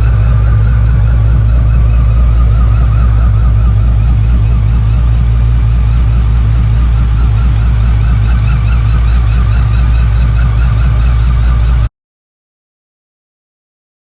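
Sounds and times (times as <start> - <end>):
car engine running: 0.0 - 11.9
supercharger whine: 0.0 - 11.9.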